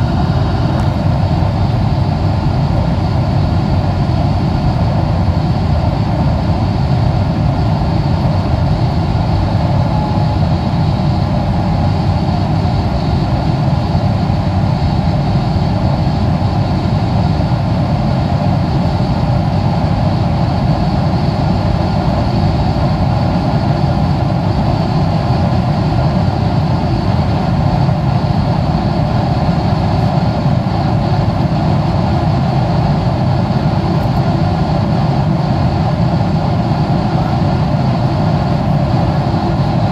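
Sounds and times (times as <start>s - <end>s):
air rushing along fuselage: 0.0s - 39.9s
faint steady whine: 0.0s - 39.9s
jet engine drone: 0.0s - 39.9s.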